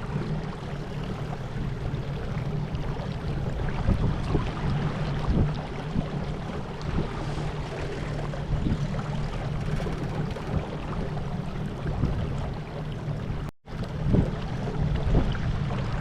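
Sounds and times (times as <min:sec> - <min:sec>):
water rushing along boat hull: 0:00.0 - 0:16.0.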